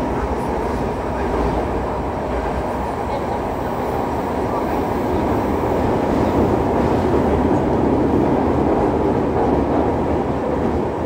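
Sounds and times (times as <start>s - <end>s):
train wheel and track rumble: 0.0s - 11.0s.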